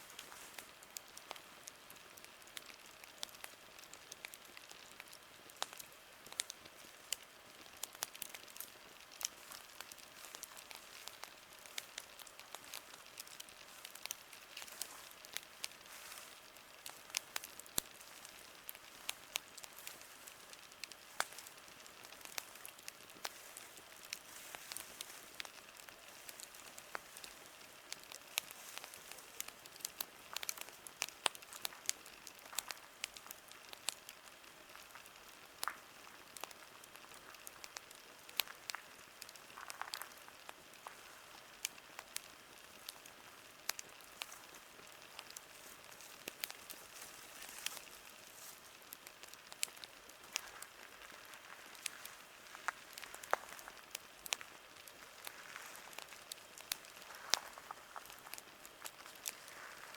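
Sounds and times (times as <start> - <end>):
campfire crackling: 0.0 - 59.9
soft steady hiss: 0.0 - 59.9.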